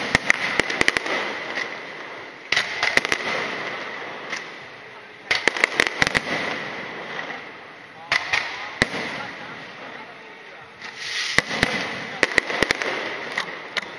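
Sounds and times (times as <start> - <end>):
fireworks bangs and crackles: 0.0 - 13.9
fireworks echo: 0.0 - 13.9.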